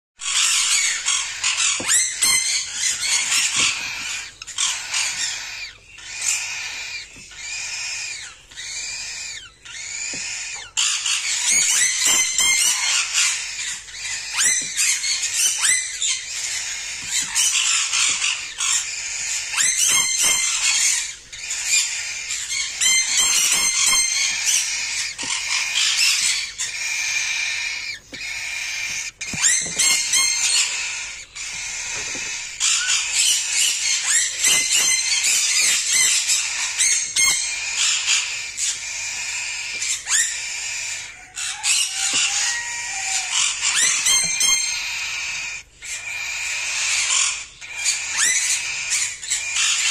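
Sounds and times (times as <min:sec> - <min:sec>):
cockatiel chick raspy begging cries: 0:00.3 - 0:49.9.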